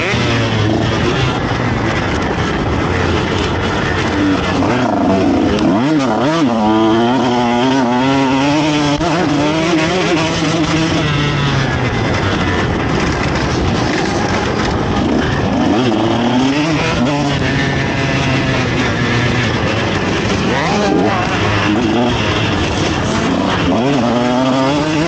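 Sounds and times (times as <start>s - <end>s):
motocross engine revving: 0.0s - 25.0s
rough rushing noise: 0.0s - 25.0s.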